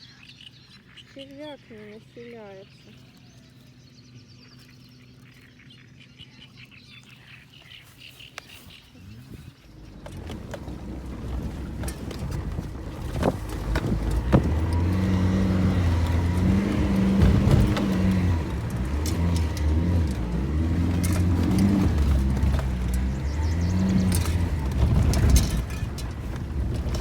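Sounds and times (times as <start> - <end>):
heavy vehicle engine drone: 2.9 - 27.0.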